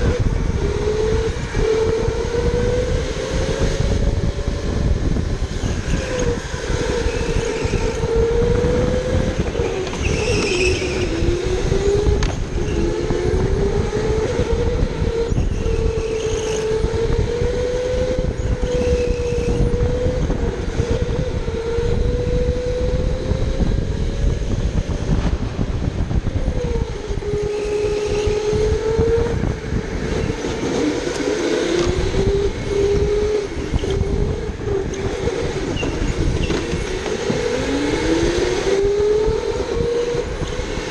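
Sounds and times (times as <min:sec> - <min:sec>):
electric motor whining: 0:00.0 - 0:40.9.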